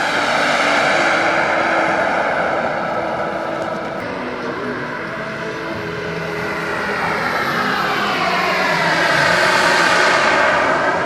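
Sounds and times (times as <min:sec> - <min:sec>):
model airplane engine: 0:00.0 - 0:11.0.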